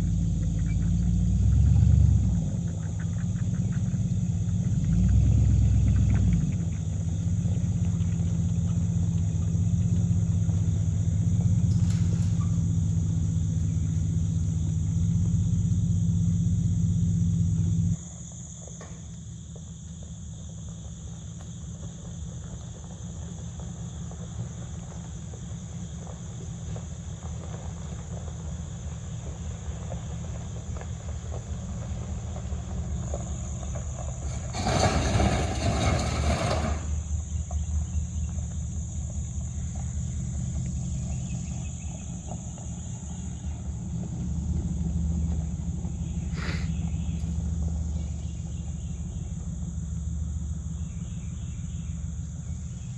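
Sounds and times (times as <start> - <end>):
crickets chirping: 0.0 - 52.9
truck engine rumbling: 0.0 - 52.9.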